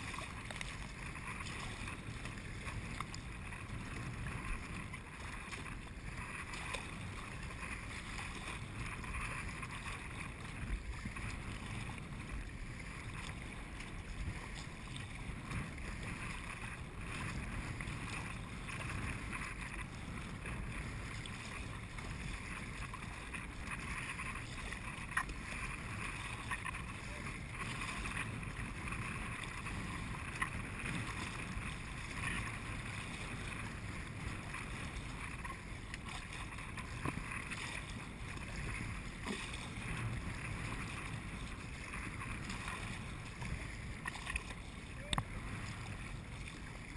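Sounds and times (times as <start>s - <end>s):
water splashing on kayak hull: 0.0s - 46.9s.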